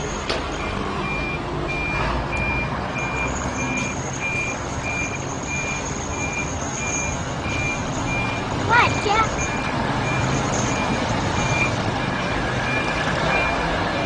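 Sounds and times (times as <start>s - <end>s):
truck engine rumble: 0.0s - 14.0s
truck reversing alarm beeping: 0.0s - 14.0s.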